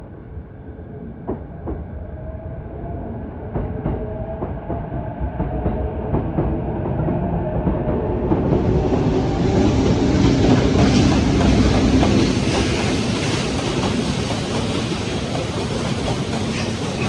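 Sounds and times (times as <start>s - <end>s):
freight train rumble and whine: 0.0s - 17.0s.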